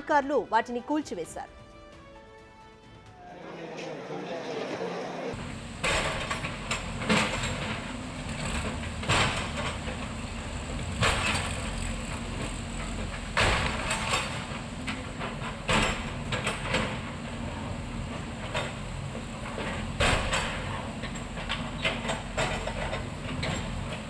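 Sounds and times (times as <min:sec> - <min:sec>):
excavator engine running: 0:01.2 - 0:24.0.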